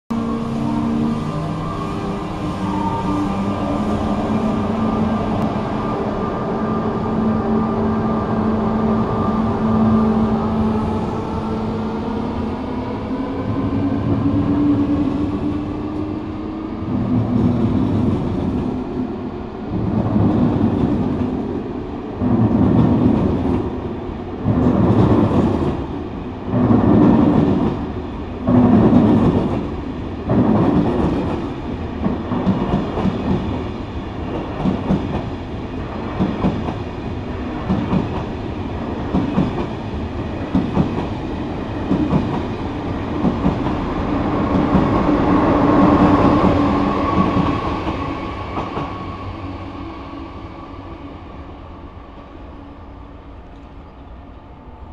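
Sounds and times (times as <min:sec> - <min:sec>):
train passing with rumble: 0:00.1 - 0:54.9.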